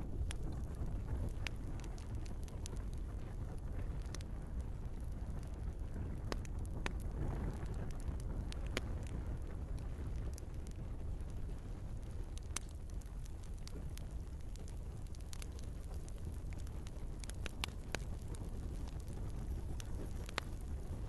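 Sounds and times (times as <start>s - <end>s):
fire rushing and crackling: 0.0s - 21.0s.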